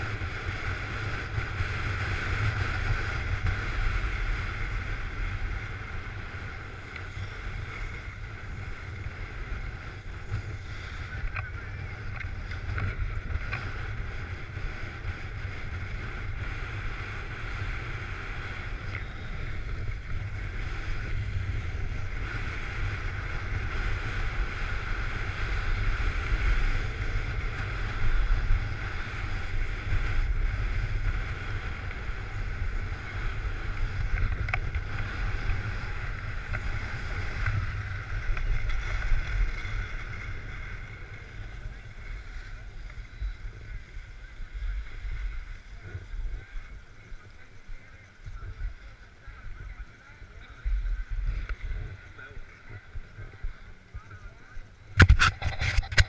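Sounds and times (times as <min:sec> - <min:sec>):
wind buffeting microphone: 0:00.0 - 0:56.0
skis hissing over snow: 0:00.1 - 0:49.4.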